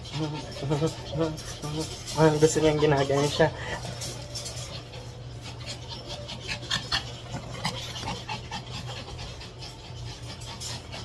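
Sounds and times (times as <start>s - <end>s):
dogs panting: 0.0s - 11.0s
dogs scuffling: 0.0s - 11.0s.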